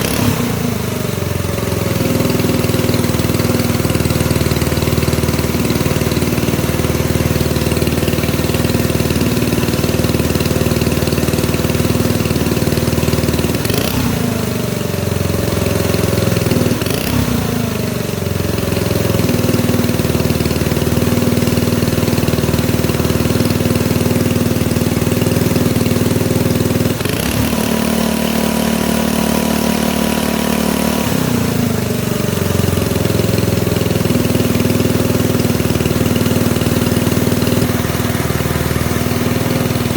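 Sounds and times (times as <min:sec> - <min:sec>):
bulldozer engine idling and revving: 0:00.0 - 0:39.9.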